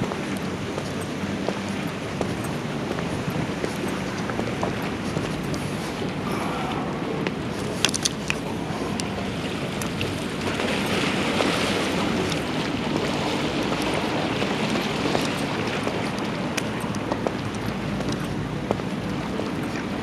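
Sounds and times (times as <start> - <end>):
low hum: 0.0 - 20.0
sea water washing: 0.0 - 20.0.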